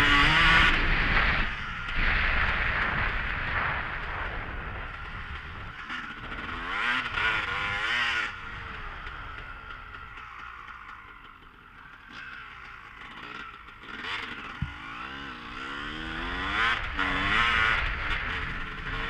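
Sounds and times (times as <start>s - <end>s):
vehicle engine revving: 0.0s - 9.6s, 13.1s - 19.0s.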